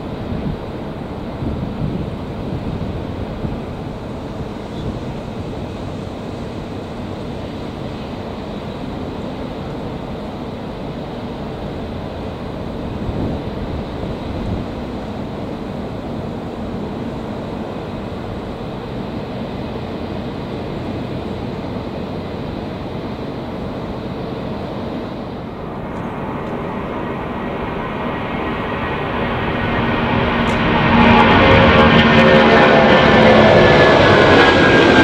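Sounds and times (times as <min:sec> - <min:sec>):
airliner takeoff noise: 0:00.0 - 0:35.0
jet engines rumbling: 0:00.0 - 0:35.0.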